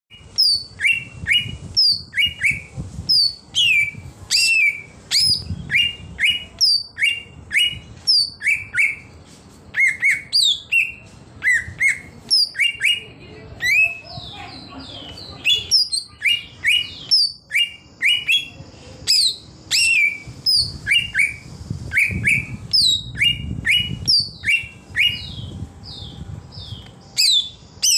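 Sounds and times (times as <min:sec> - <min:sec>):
bird singing whistled notes: 0:00.1 - 0:27.9.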